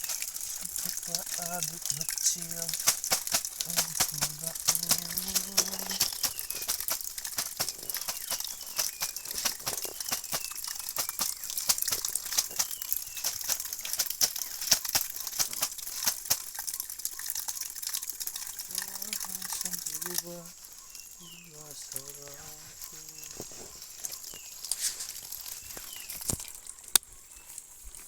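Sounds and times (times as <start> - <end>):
dense crackling and rustling: 0.0 - 28.0.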